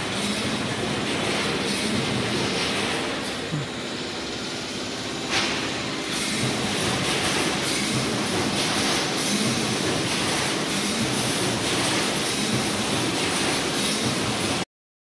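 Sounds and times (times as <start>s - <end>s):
welding machine running: 0.0s - 14.6s.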